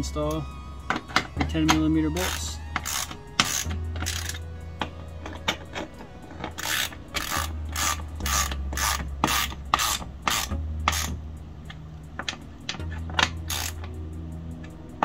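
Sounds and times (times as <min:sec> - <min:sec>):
ratchet wrench clicking: 0:00.9 - 0:15.0.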